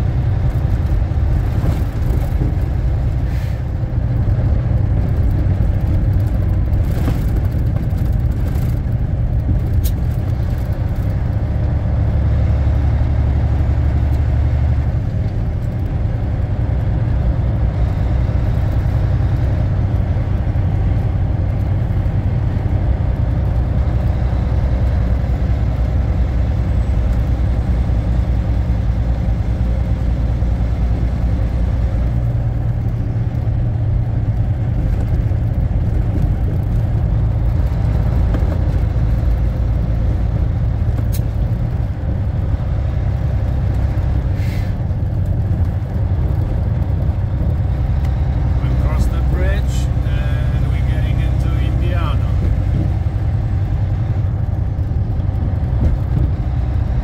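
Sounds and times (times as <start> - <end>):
road and tyre noise: 0.0 - 57.0
truck diesel engine drone: 0.0 - 57.0.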